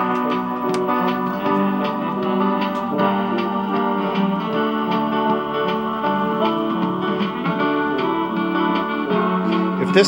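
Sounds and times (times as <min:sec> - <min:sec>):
instrumental music through tv speaker: 0:00.0 - 0:10.0.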